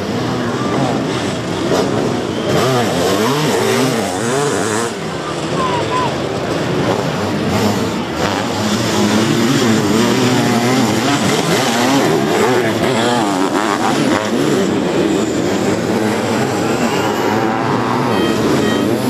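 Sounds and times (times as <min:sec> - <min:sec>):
motorcycle engines revving past: 0:00.0 - 0:19.0.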